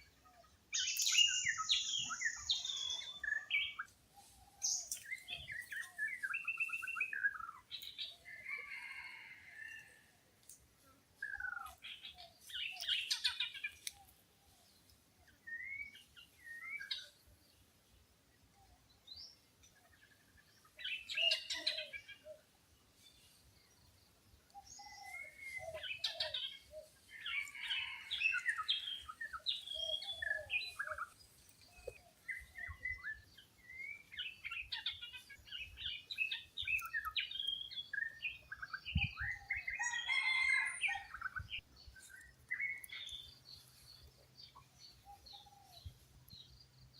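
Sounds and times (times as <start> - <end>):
wild birds chirping: 0.0 - 46.9.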